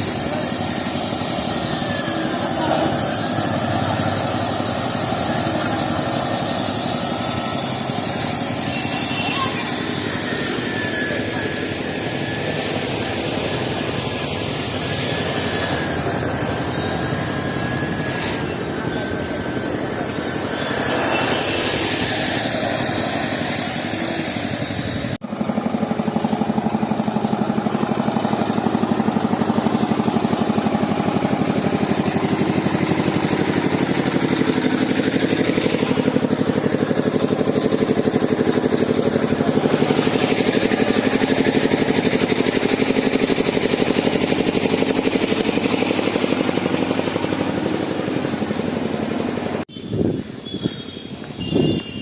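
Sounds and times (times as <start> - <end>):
train engine throbbing: 0.0 - 49.7.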